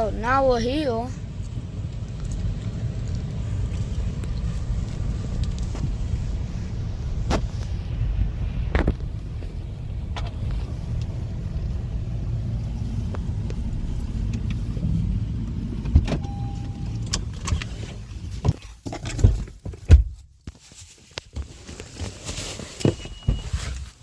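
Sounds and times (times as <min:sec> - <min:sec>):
car interior rumble: 0:00.0 - 0:20.5.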